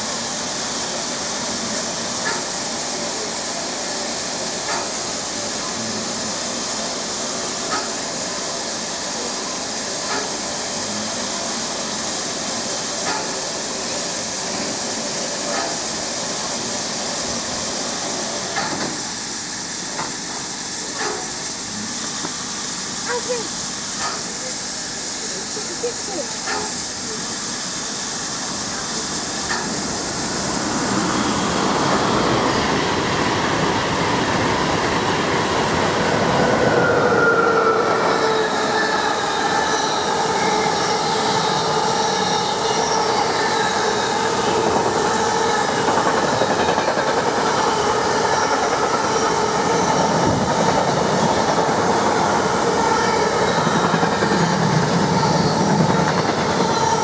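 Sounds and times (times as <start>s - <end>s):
train wagons rumbling on rails: 0.0s - 57.0s.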